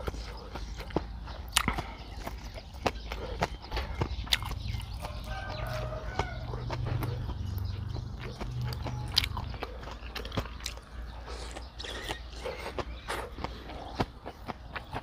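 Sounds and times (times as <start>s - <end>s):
man chewing and eating: 0.0s - 15.0s.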